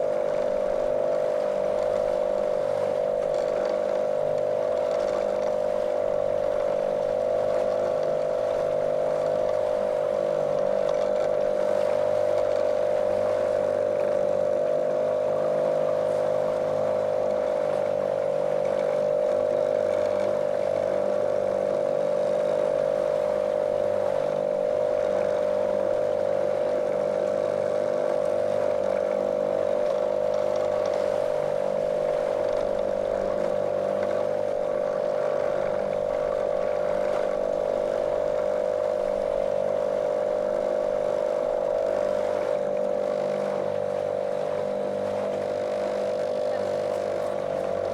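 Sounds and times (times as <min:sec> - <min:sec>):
motorboat motor running: 0:00.0 - 0:47.9.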